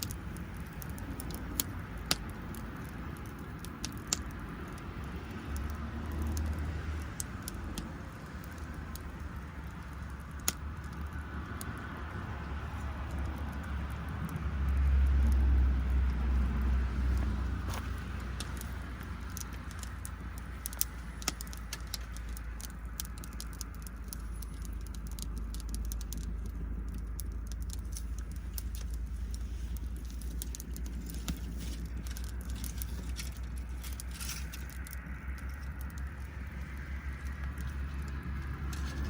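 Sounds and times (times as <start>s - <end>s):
low rumble: 0.0s - 39.0s
wood fire crackling and popping: 0.0s - 39.0s.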